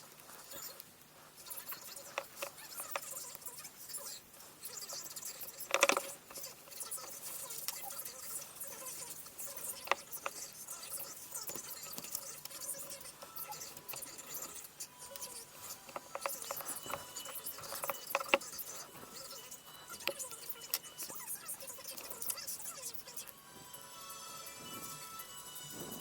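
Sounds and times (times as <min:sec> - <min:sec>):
scratching and clicking handling noises: 0:00.0 - 0:23.6.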